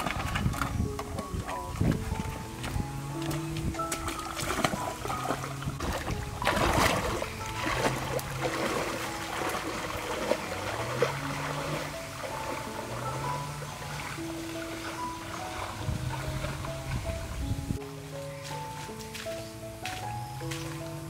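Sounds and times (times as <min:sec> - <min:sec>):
background music: 0:00.0 - 0:21.0
water splashing and trickling: 0:00.0 - 0:21.0.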